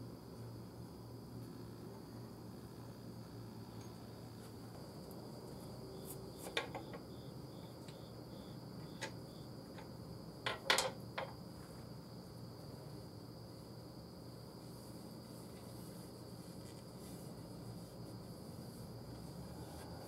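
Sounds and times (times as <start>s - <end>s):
faint high-pitched whine: 0.0s - 20.0s.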